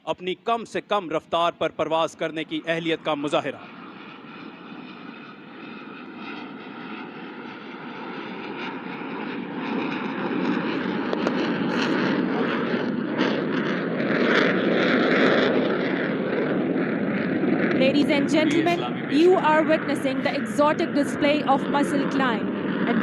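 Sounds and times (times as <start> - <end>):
jet engine rushing whine: 0.0 - 23.0.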